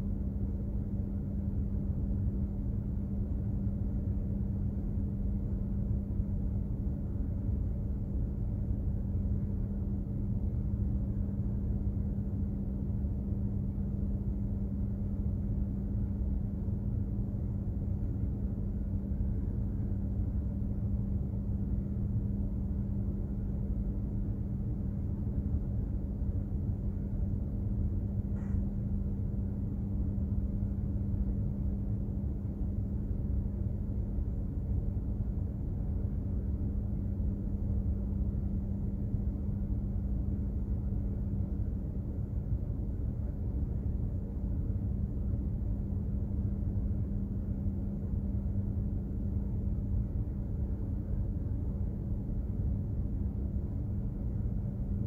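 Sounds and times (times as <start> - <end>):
constant low hum: 0.0 - 55.0.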